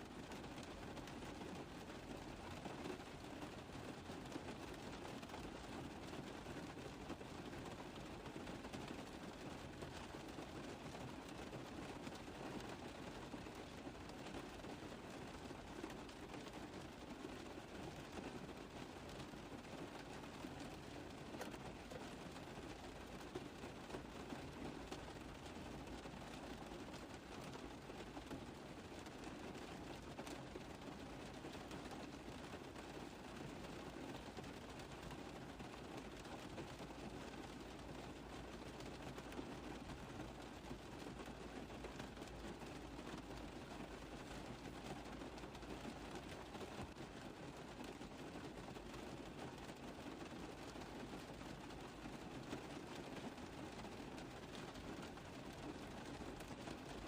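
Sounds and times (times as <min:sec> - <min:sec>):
rain on a car roof: 0:00.0 - 0:57.0.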